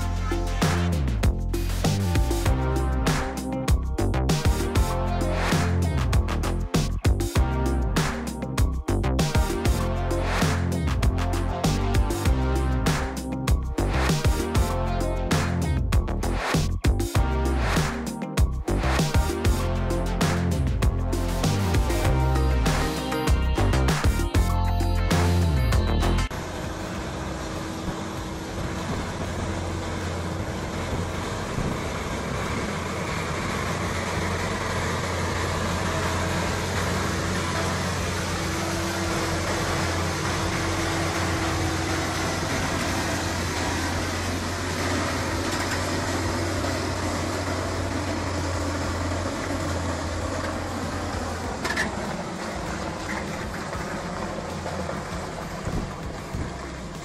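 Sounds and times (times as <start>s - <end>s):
dump truck diesel engine: 0.0s - 57.0s.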